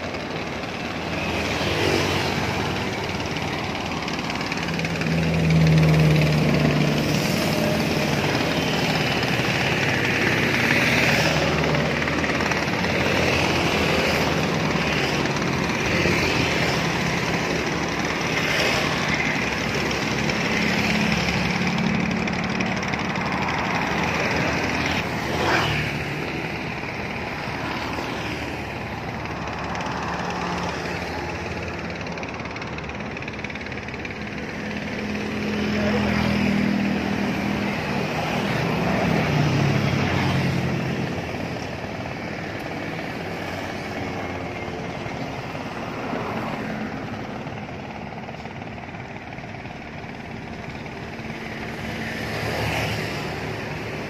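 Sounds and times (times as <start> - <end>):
motorcycles and cars passing: 0.0 - 54.0
steady traffic noise: 0.0 - 54.0.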